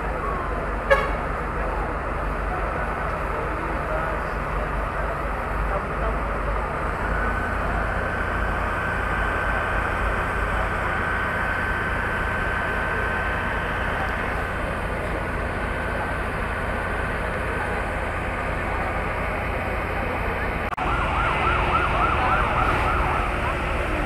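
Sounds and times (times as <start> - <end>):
fire truck engines rumbling: 0.0 - 24.0.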